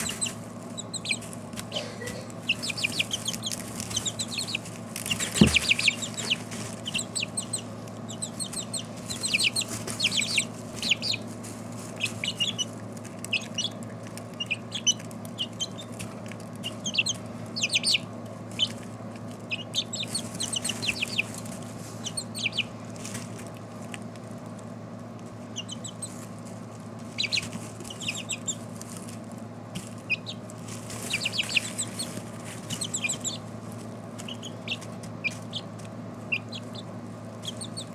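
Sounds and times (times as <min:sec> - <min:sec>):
chicks peeping: 0:00.0 - 0:24.6, 0:25.2 - 0:37.9
steady low hum: 0:00.0 - 0:37.9.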